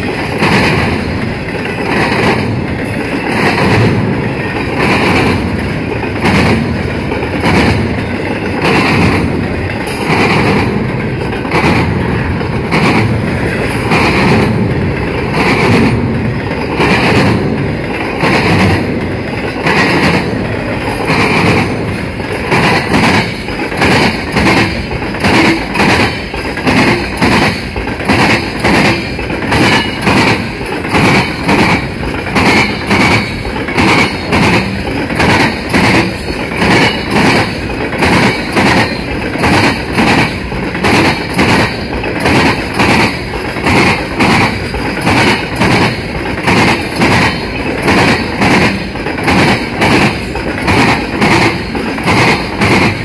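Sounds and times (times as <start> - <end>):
freight train rumbling past: 0.0 - 53.0
steel wheels clacking on track: 0.0 - 53.0.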